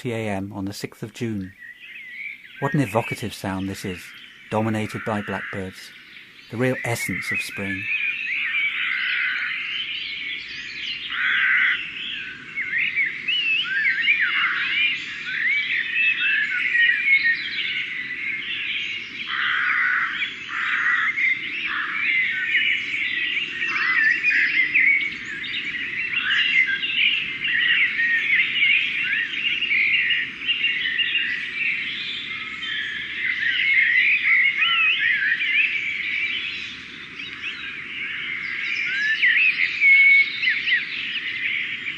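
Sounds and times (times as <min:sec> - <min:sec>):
birds singing: 0:00.0 - 0:41.9.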